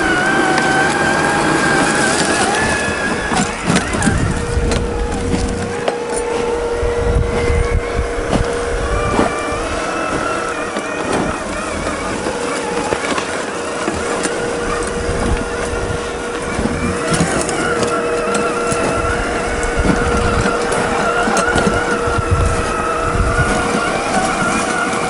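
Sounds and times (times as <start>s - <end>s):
toy car electric motor whining: 0.0s - 25.0s
tyres crunching over rough ground: 0.0s - 25.0s.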